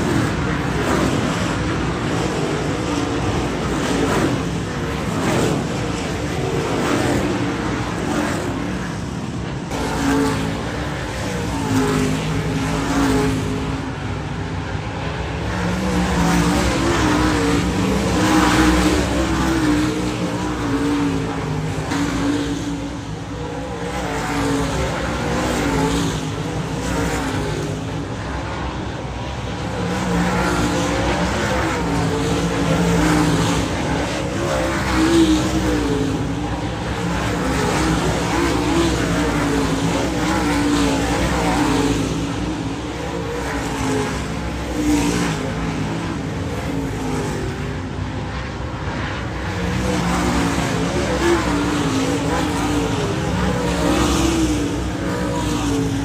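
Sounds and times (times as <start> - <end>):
race car engines running: 0.0 - 56.0.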